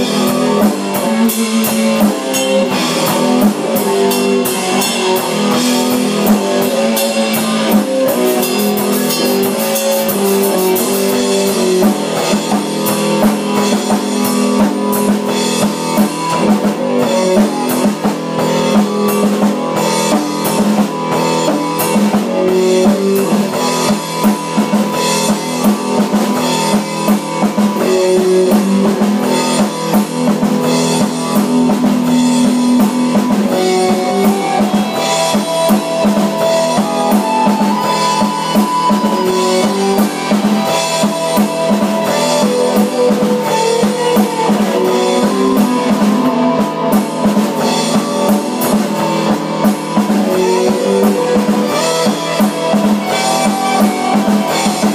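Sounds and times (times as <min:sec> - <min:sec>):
drum kit: 0:00.0 - 0:54.9
guitar: 0:00.0 - 0:54.9.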